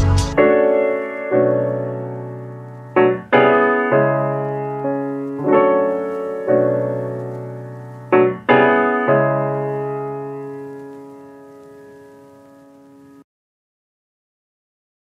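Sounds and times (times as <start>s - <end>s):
slow piano chords: 0.0s - 13.2s.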